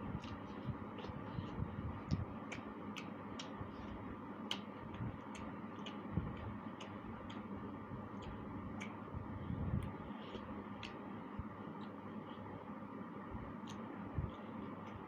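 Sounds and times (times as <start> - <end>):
low background hum: 0.0 - 15.0
mouth clicks and lip smacks: 0.1 - 12.5, 13.6 - 15.0.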